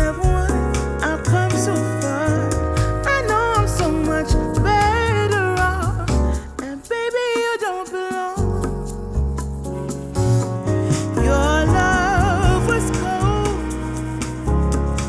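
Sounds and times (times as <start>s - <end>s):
pop song through headphones: 0.0s - 9.1s, 10.6s - 15.0s.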